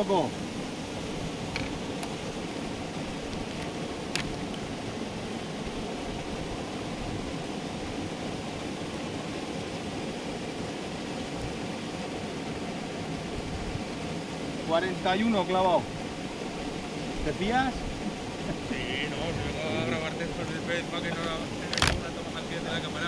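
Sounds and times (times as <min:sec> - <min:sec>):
wind hissing: 0:00.0 - 0:23.0.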